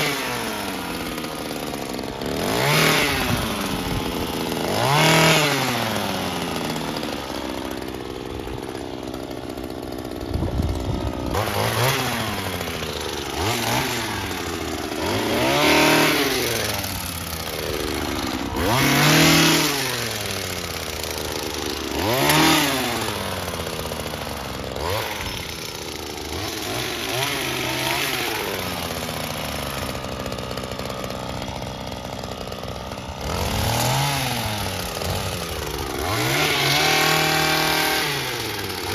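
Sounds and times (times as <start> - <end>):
small gas engine revving: 0.0 - 38.9.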